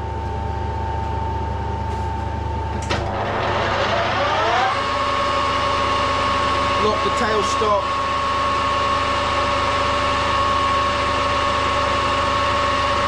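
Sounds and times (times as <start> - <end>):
lathe motor whine: 0.0 - 13.0.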